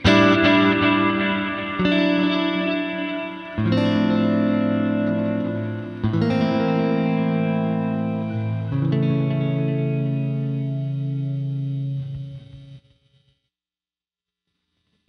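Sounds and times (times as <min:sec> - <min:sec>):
clean electric guitar chords: 0:00.0 - 0:12.8.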